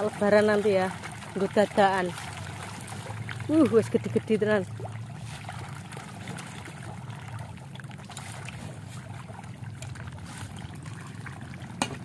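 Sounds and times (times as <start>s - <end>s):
fish splashing at surface: 0.0s - 12.0s
water trickling and lapping: 0.0s - 12.0s.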